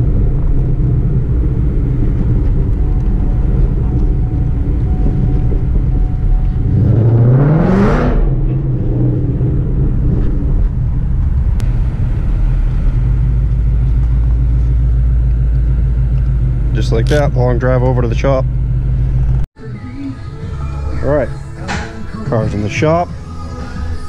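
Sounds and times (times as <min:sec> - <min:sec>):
car engine running: 0:00.0 - 0:19.5.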